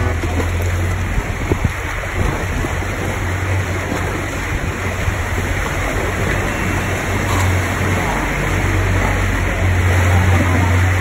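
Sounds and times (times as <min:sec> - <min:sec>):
boat engine humming: 0:00.0 - 0:11.0
water rushing against hull: 0:00.0 - 0:11.0.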